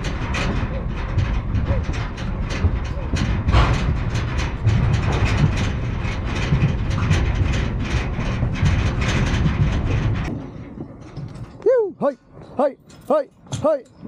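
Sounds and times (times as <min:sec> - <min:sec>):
metallic rattling and clanking: 0:00.0 - 0:14.0.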